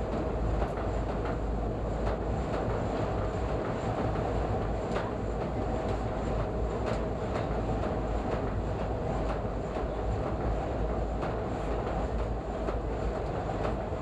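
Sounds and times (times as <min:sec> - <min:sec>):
subway train rumbling in tunnel: 0:00.0 - 0:14.0.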